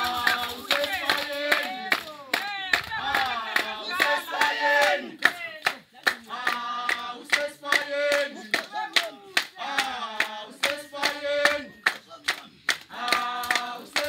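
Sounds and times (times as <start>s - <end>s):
group of voices singing: 0.0s - 14.0s
hand clapping: 0.0s - 14.0s.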